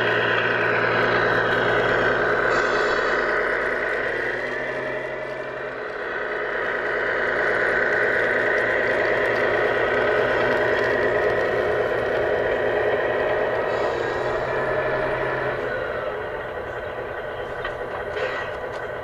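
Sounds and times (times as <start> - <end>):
tyres crunching on gravel: 0.8 - 16.1.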